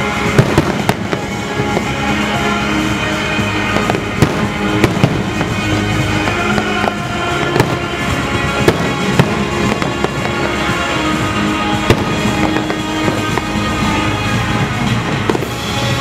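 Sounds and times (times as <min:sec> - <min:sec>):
fireworks bursting: 0:00.0 - 0:16.0
fireworks crackle: 0:00.0 - 0:16.0
music over loudspeakers: 0:00.0 - 0:16.0.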